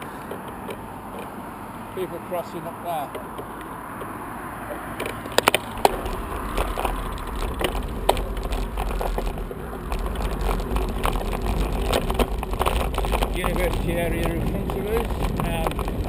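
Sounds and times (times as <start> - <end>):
bike rattling clicks: 0.0 - 1.4, 3.1 - 16.0
low wind rumble: 0.0 - 16.0
tyre and wind noise: 0.0 - 16.0.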